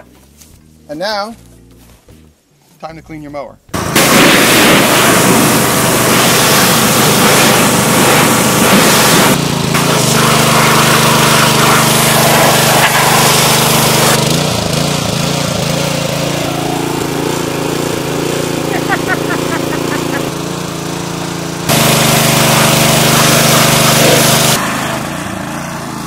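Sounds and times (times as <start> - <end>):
engine running under load: 3.7 - 26.0
high-pressure water jet hissing: 3.8 - 20.4, 21.0 - 25.2.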